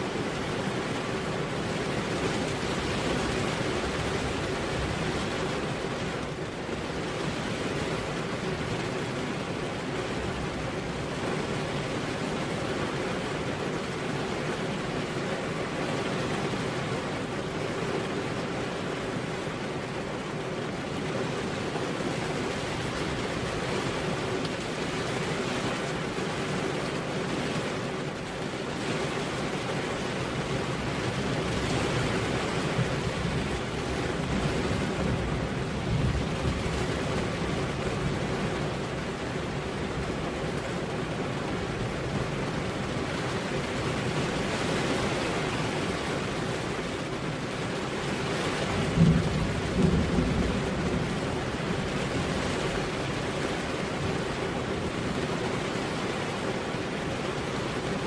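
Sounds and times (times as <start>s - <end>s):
heavy rain on a road: 0.0s - 58.0s.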